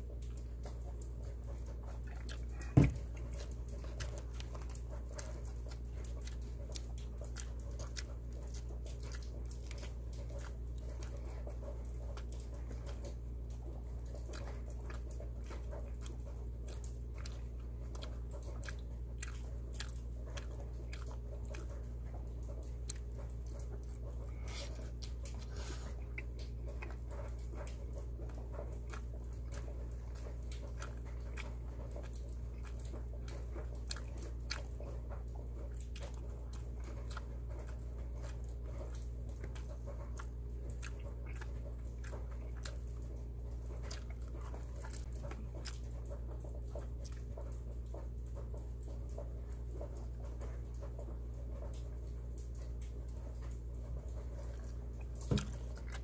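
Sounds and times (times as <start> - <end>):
person chewing and biting: 0.0 - 51.9, 52.5 - 56.0
steady low hum: 0.0 - 56.0.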